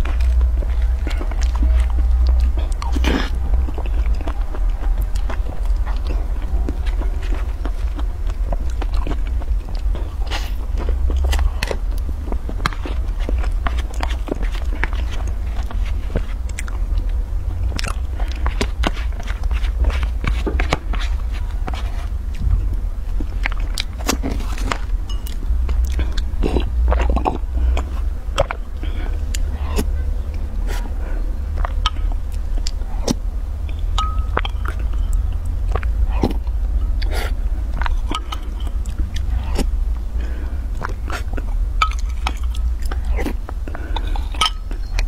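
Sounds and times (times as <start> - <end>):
chewing and mouth sounds: 0.0 - 45.0
steady low hum: 0.0 - 45.0.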